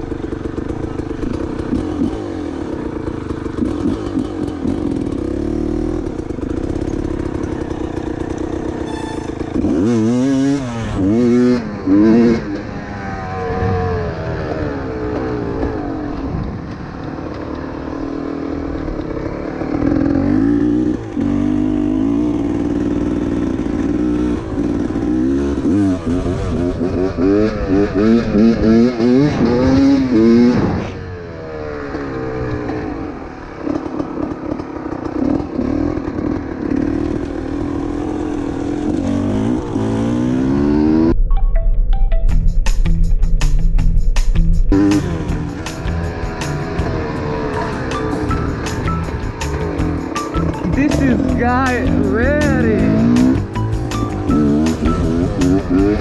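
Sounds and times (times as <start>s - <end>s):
dirt bike engine revving: 0.0s - 41.2s, 44.7s - 56.0s.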